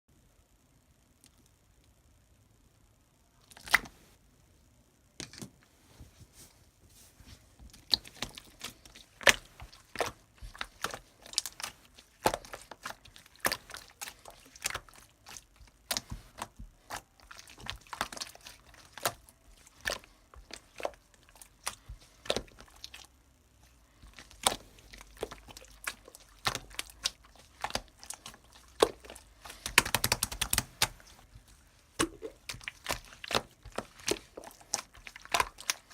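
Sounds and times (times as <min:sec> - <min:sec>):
hands squishing slime: 0:03.5 - 0:04.0, 0:07.2 - 0:35.9.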